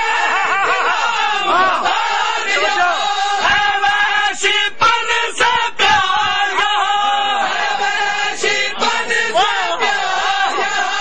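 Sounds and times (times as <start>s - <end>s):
crowd singing wavering notes: 0.0s - 11.0s
men chanting a lament: 0.0s - 11.0s.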